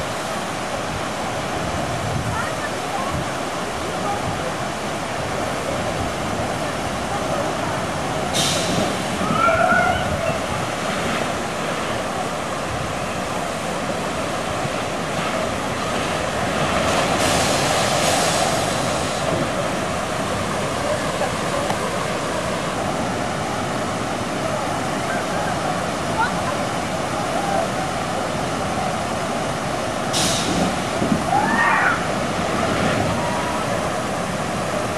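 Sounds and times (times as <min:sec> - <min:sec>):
water rushing in pools: 0:00.0 - 0:34.9.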